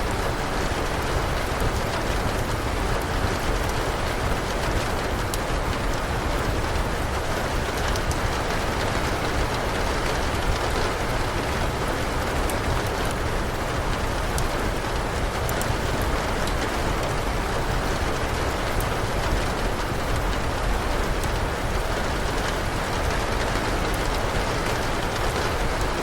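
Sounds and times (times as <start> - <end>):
steady rain: 0.0 - 26.0
wood fire crackling: 0.0 - 26.0.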